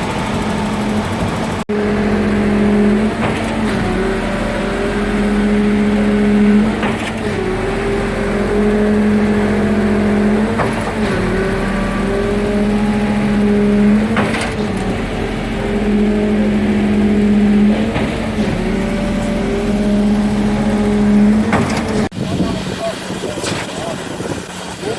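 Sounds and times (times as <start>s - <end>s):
pumping cylinders knocking: 0.0s - 24.8s
concrete pump engine running: 0.0s - 24.9s.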